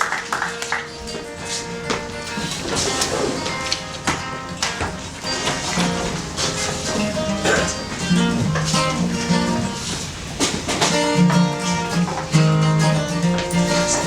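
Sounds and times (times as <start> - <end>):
plucked and strummed guitar: 0.0 - 14.0.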